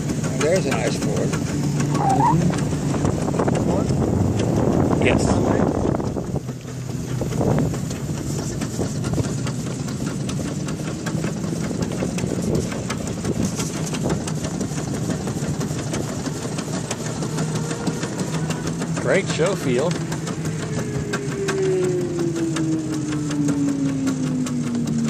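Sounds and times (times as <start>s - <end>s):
fast even engine ticking: 0.0s - 25.0s
steam car engine running: 0.0s - 25.0s.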